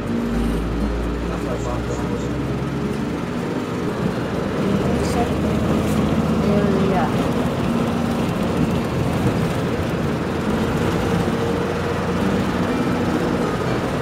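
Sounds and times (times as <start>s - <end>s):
bus engine and road rumble: 0.0s - 14.0s
faint engine hum: 0.0s - 14.0s.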